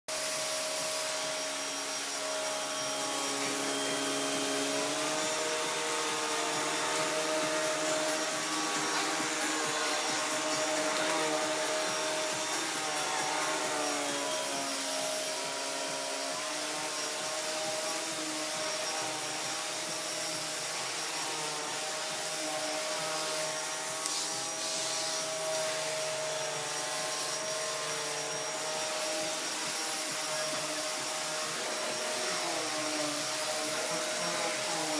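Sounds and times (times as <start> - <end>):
brush roll working over carpet: 0.1 - 34.9
vacuum cleaner motor whine: 0.1 - 34.9.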